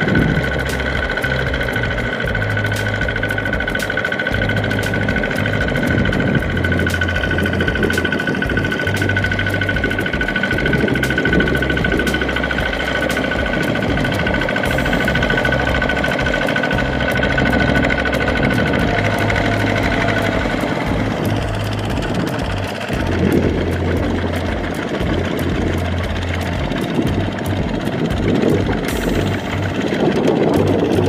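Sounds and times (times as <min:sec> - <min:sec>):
diesel engine knocking: 0:00.0 - 0:31.0
wheels churning through water: 0:00.0 - 0:31.0.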